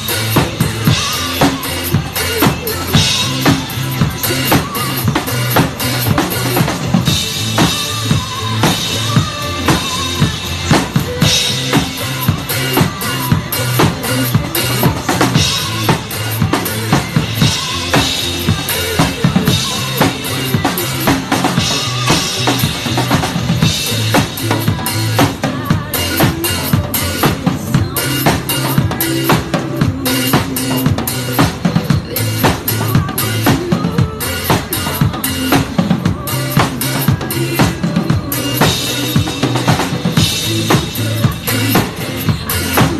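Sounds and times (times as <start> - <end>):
backing track bass line: 0.0 - 42.9
bass drum and snare beat: 0.0 - 42.9.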